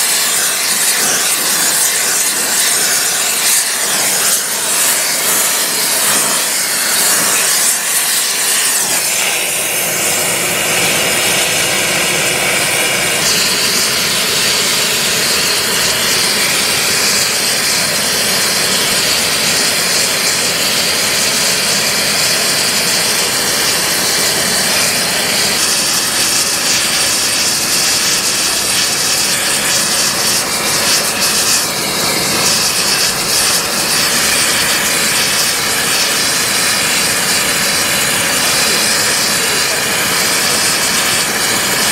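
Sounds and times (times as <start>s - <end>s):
gas burner hissing: 0.0s - 41.9s.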